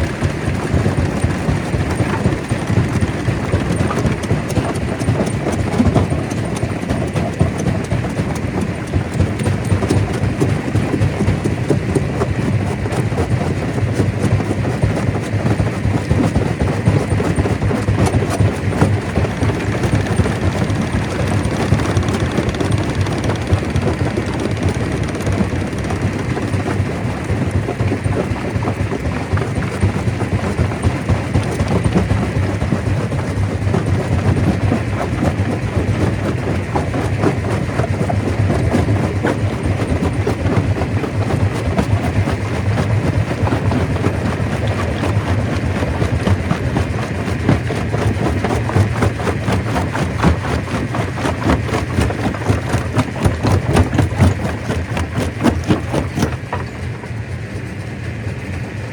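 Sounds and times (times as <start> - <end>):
stone crusher running: 0.0 - 57.0.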